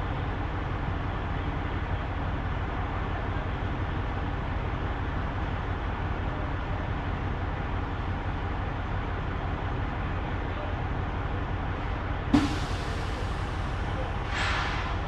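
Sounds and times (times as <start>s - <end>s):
diesel truck engine drone: 0.0s - 15.0s.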